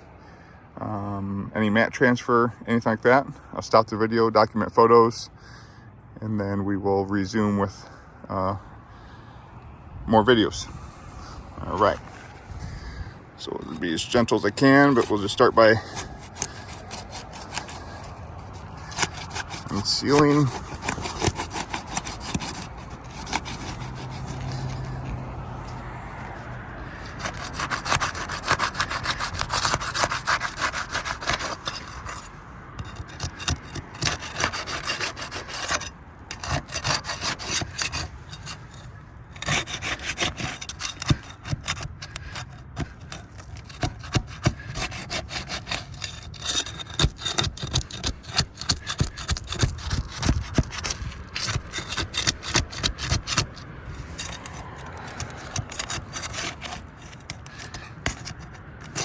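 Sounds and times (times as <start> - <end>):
flat bar scraping under shingles: 10.4 - 59.0.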